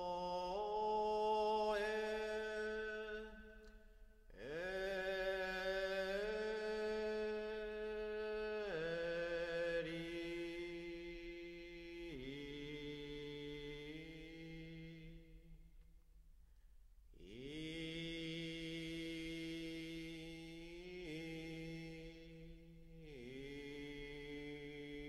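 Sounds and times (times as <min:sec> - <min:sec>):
solo voice chanting: 0:00.0 - 0:15.8, 0:17.1 - 0:25.0.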